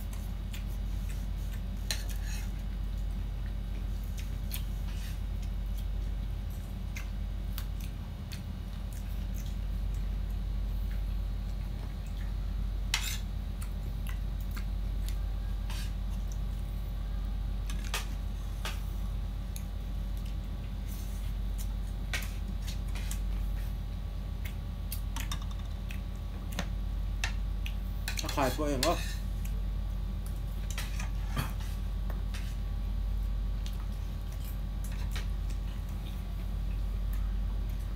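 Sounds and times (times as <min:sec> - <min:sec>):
fingers eating rice and meat: 0:00.0 - 0:37.9
steady low hum: 0:00.0 - 0:37.9.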